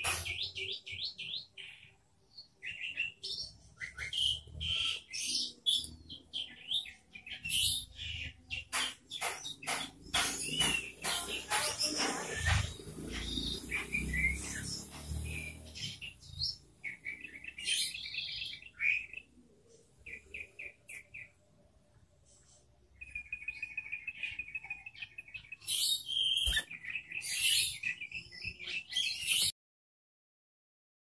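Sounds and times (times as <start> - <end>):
bird chirping and chattering: 0.0 - 2.0, 2.6 - 21.4, 22.3 - 29.5.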